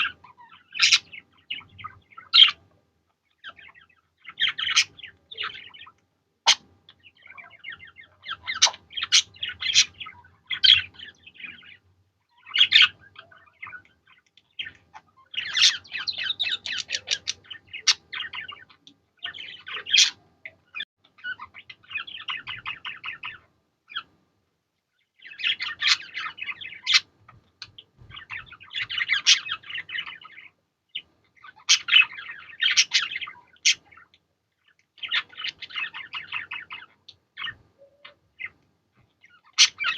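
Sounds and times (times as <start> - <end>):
budgerigars chattering and warbling: 0.0 - 2.6, 3.3 - 24.1, 25.2 - 38.6, 39.2 - 39.9.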